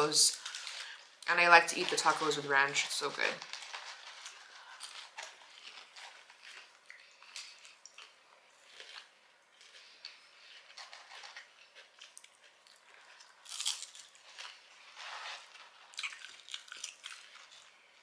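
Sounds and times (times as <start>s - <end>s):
person chewing crunchy fries: 3.4s - 18.0s.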